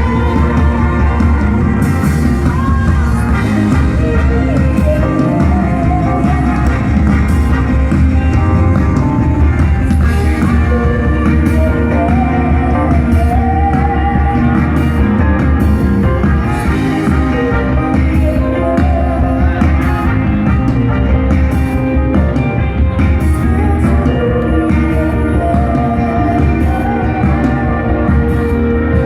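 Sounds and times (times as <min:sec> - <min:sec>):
live band with guitar and bass: 0:00.0 - 0:29.0.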